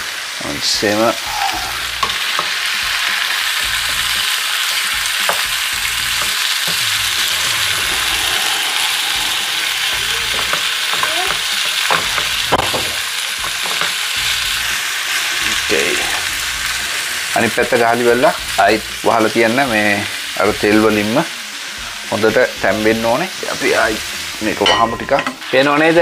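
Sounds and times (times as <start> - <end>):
meat and onions sizzling in oil: 0.0 - 26.0.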